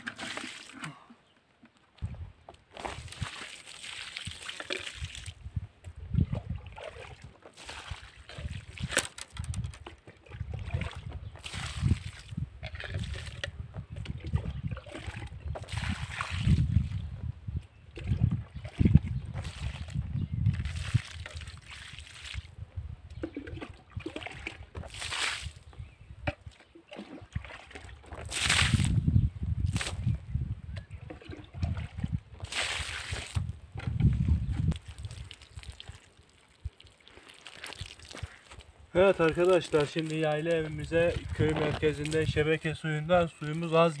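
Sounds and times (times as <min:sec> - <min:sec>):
water pouring from jug: 0:00.0 - 0:01.0, 0:02.8 - 0:05.5, 0:06.2 - 0:17.0, 0:18.0 - 0:22.5, 0:23.2 - 0:25.6, 0:26.8 - 0:29.0, 0:30.9 - 0:42.8
water sloshing in bucket: 0:00.0 - 0:01.1, 0:02.7 - 0:05.5, 0:06.1 - 0:17.0, 0:17.9 - 0:22.5, 0:23.2 - 0:25.7, 0:26.3 - 0:29.0, 0:30.8 - 0:44.0.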